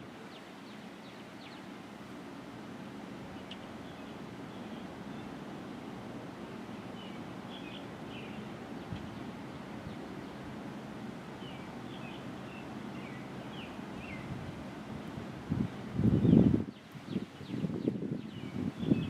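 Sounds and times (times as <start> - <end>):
birds chirping: 0.0 - 2.0, 3.3 - 5.8, 6.5 - 14.7, 15.7 - 19.0.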